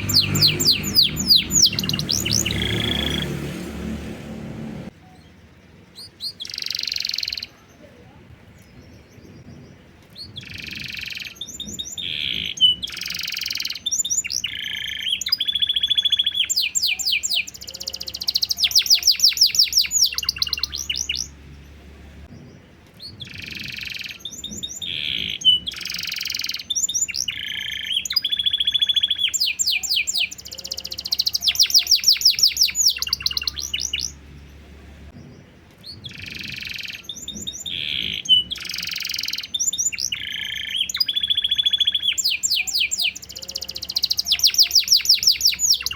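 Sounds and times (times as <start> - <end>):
canary singing trills: 0.0 - 3.5, 4.9 - 45.9.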